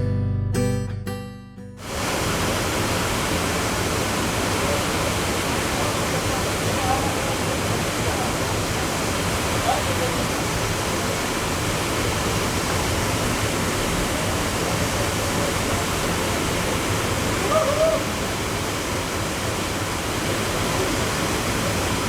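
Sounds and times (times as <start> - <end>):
waterfall rushing: 1.8 - 22.0.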